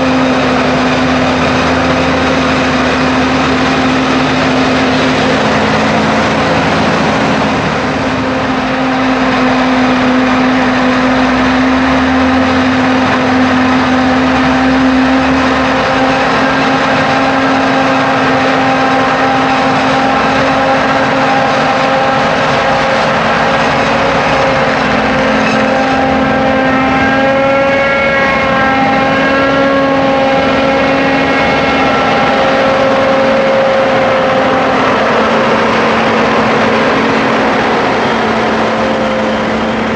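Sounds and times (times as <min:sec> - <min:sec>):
harvester engine hum: 0:00.0 - 0:39.9
high wavering whine: 0:00.0 - 0:39.9.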